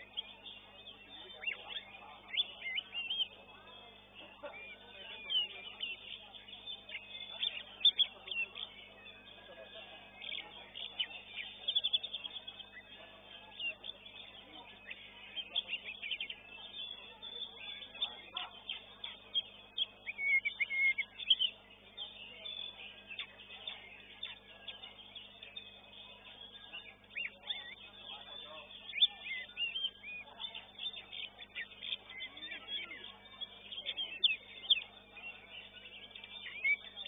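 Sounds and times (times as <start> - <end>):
bird singing chirps and trills: 0.0 - 37.0.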